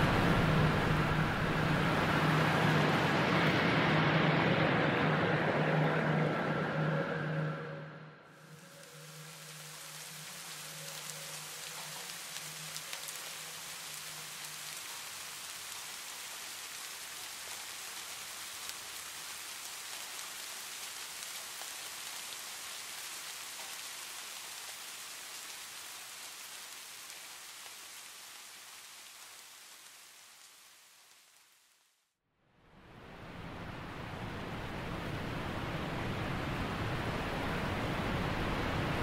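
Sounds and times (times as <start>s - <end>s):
steady rain falling: 0.0s - 6.9s, 8.3s - 32.1s, 32.8s - 39.0s.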